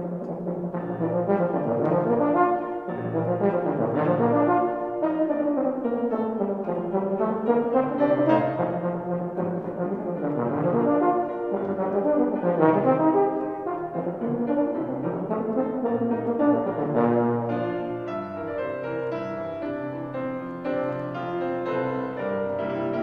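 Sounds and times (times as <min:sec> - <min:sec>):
grand piano: 0:00.0 - 0:23.0.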